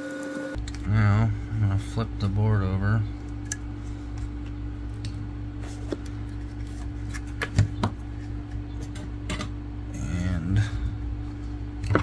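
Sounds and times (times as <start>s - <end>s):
steady low hum: 0.4s - 12.0s.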